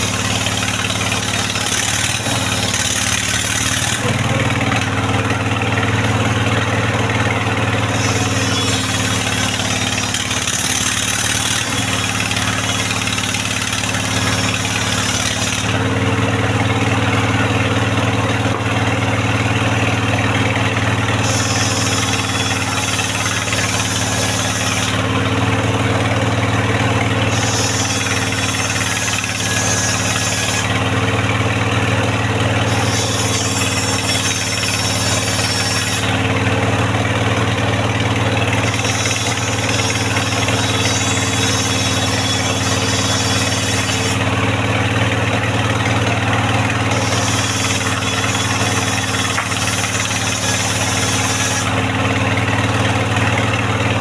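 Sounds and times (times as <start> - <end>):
circular saw cutting wood: 0.0 - 54.0
engine hum: 0.0 - 54.0.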